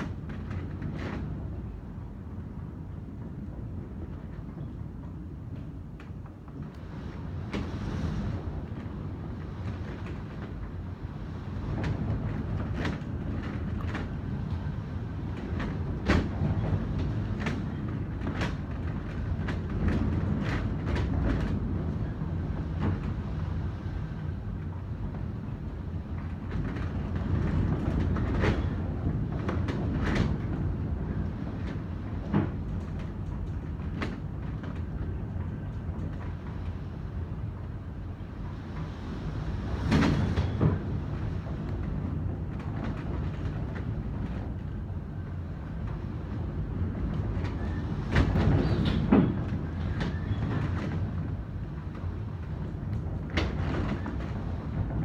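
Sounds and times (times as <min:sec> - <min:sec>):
strong wind rumbling: 0:00.0 - 0:55.0.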